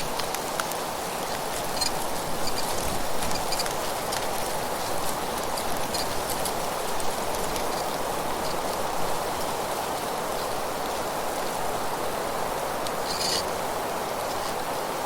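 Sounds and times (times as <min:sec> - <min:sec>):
rushing rustling outdoor noise: 0:00.0 - 0:15.0.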